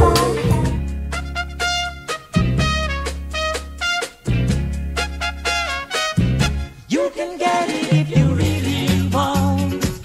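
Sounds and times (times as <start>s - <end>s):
swing brass music: 0.0s - 9.2s.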